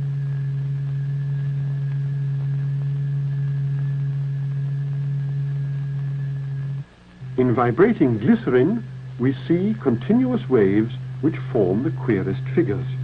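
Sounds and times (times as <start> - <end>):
low electronic tone: 0.0 - 13.0.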